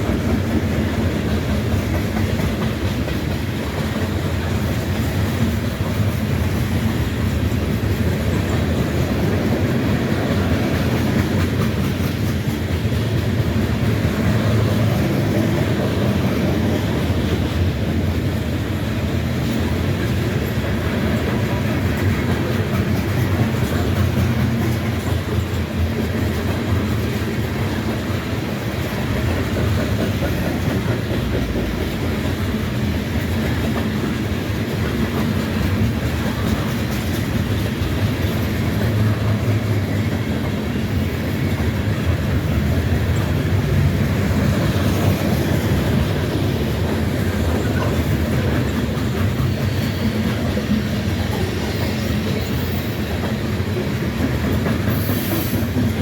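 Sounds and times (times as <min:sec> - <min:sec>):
freight train rumbling past: 0:00.0 - 0:56.0
wheels clacking over rail joints: 0:00.0 - 0:56.0.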